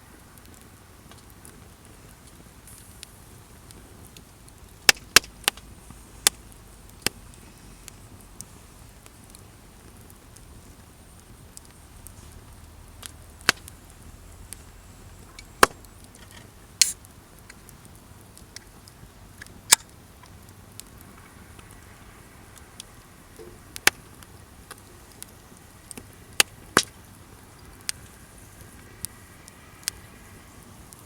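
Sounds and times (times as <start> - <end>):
campfire wood crackling: 0.0 - 31.0
loud pops of burning wood: 0.1 - 31.0.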